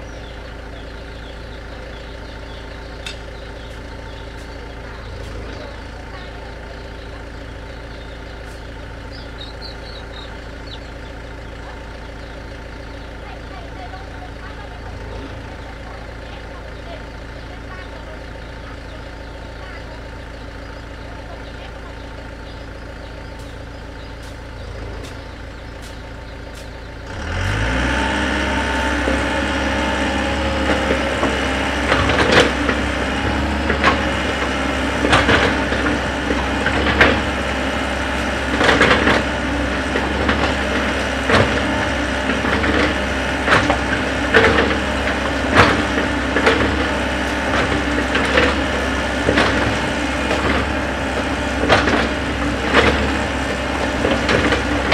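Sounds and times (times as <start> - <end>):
excavator diesel engine revving: 0.0 - 54.9.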